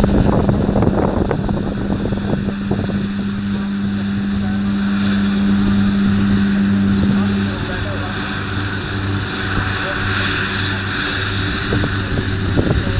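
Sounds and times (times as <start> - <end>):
tractor diesel engine under load: 0.0 - 12.9.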